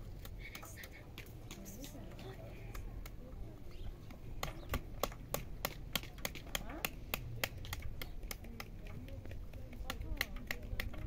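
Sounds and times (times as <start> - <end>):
knife cutting pomegranates clicking: 0.1 - 3.3, 4.0 - 11.0.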